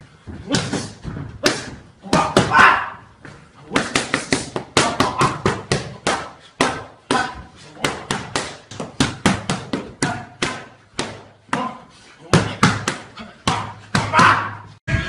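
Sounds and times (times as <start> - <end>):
boxing gloves smacking mitts: 0.3 - 14.6.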